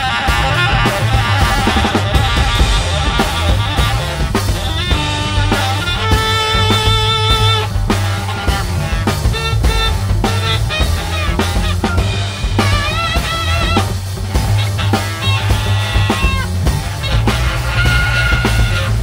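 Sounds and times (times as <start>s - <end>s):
baritone saxophone: 0.0s - 19.0s
drum kit: 0.0s - 19.0s
electric guitar: 0.0s - 19.0s
walking upright bass: 0.0s - 19.0s.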